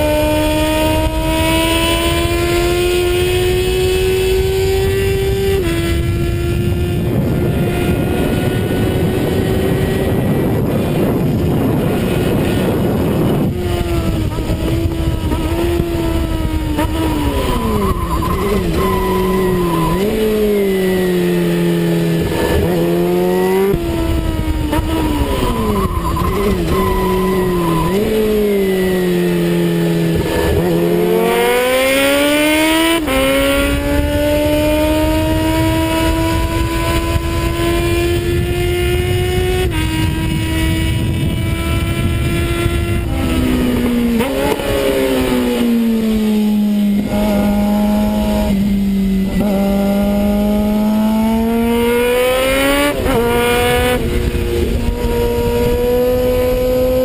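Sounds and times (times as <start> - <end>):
motorcycle engine revving: 0.0 - 57.0
wind rush: 0.1 - 30.9, 32.7 - 47.3, 48.0 - 57.0.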